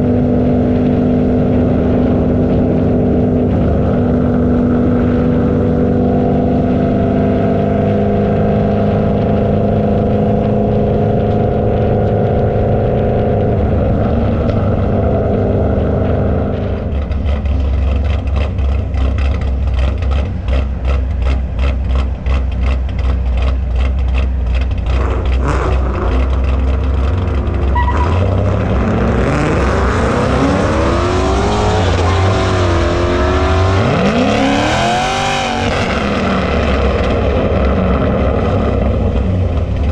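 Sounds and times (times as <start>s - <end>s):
car engine droning: 0.0s - 39.9s
engine revving: 0.0s - 39.9s.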